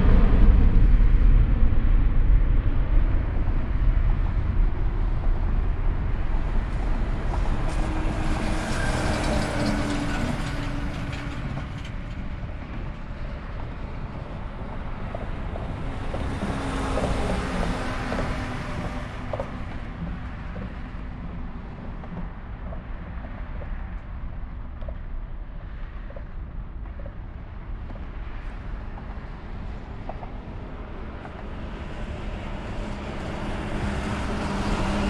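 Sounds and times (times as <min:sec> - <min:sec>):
jet engine rumble: 0:00.0 - 0:35.0.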